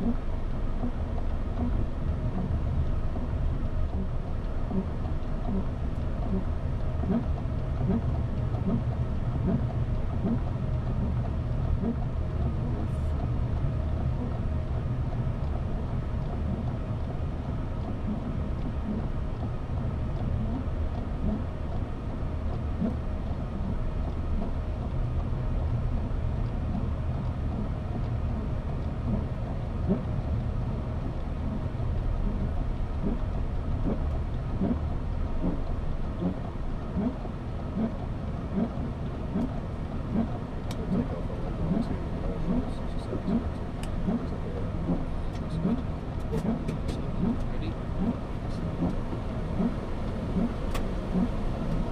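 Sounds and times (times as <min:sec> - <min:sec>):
rushing air and engine rumble: 0:00.0 - 0:51.9.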